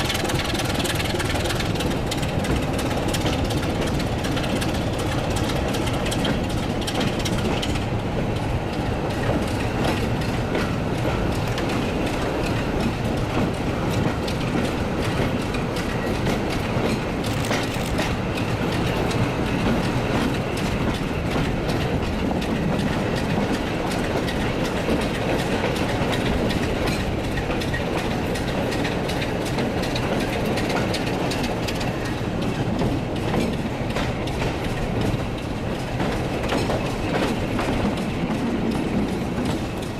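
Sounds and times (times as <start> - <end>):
train engine and wheels rumbling: 0.0 - 39.9
wheels clacking over rail joints: 0.0 - 39.9.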